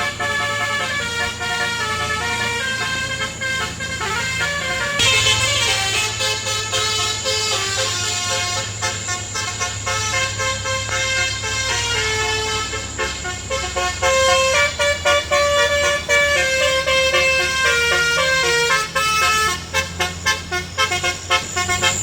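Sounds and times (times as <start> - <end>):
multi-tone musical horn melody: 0.0 - 22.0
truck engine running: 0.0 - 22.0.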